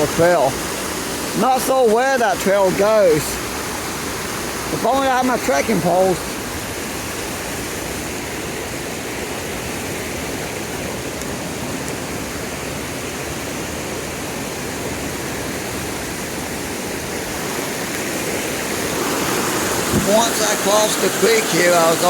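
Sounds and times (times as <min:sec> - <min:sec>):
creek flowing over rocks: 0:00.0 - 0:22.0.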